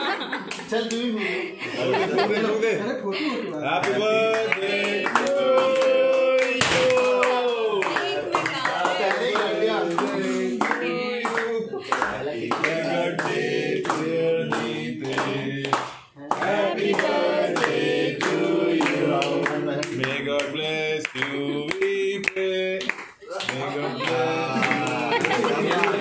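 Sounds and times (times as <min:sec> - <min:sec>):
people clapping along: 0:00.3 - 0:01.1, 0:03.8 - 0:26.0
group singing birthday song: 0:01.2 - 0:26.0.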